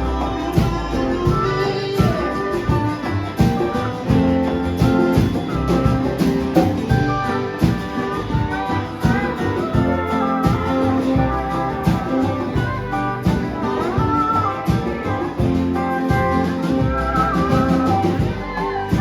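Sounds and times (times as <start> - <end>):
drum hits: 0.0 - 19.0
electric guitar: 0.0 - 19.0
live band playing: 0.0 - 19.0.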